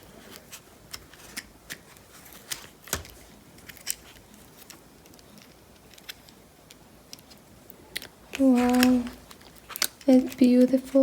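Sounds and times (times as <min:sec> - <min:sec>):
packaging clicks and taps: 0:00.9 - 0:11.0.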